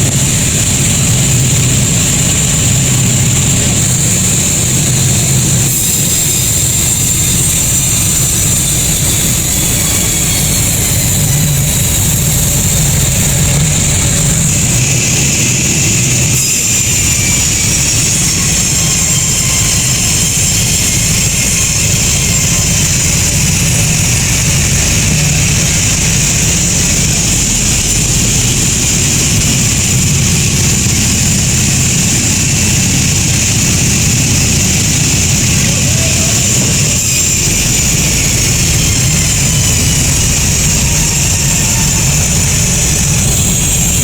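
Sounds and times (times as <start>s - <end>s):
low machine drone: 0.0s - 44.0s
sawmill saw whining: 0.0s - 44.0s.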